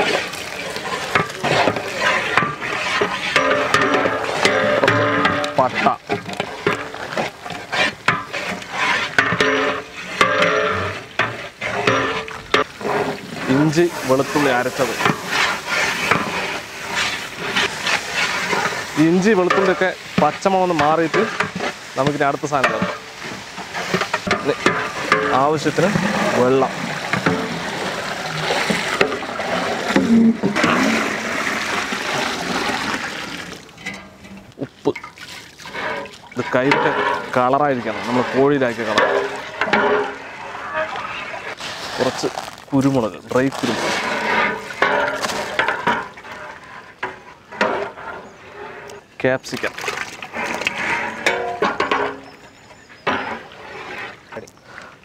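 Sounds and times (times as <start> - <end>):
oil sizzling: 0.0 - 46.4
ladle scraping food in pot: 0.0 - 54.6.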